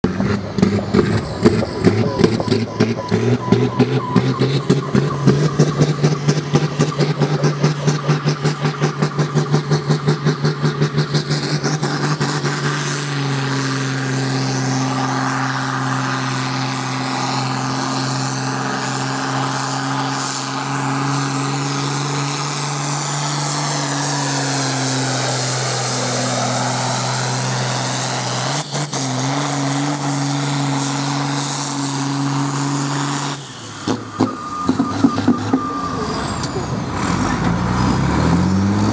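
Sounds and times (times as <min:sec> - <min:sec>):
tractor diesel engine under full power: 0:00.0 - 0:38.9.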